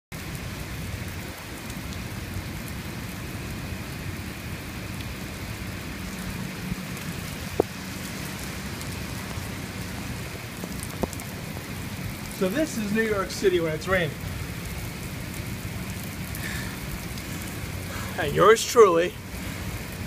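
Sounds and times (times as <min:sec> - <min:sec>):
rain spattering on surfaces: 0:00.1 - 0:20.0.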